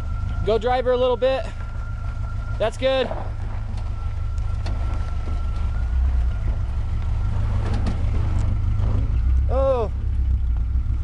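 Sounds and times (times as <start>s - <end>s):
truck engine running low: 0.0s - 11.0s.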